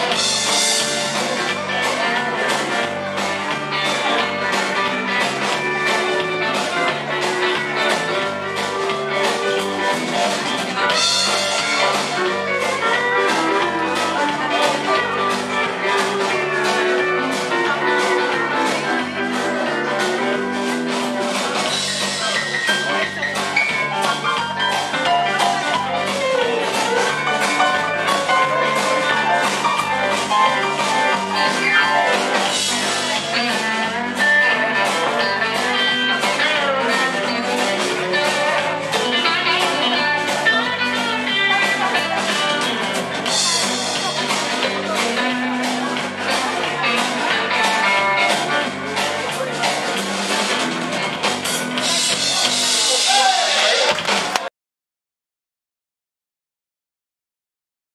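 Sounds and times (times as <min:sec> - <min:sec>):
band music with guitar: 0:00.0 - 0:54.5
steady drum beat: 0:00.0 - 0:54.5.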